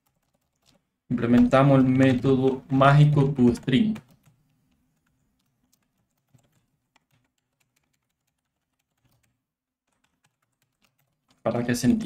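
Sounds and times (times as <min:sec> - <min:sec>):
faint keyboard typing: 0:00.0 - 0:12.0.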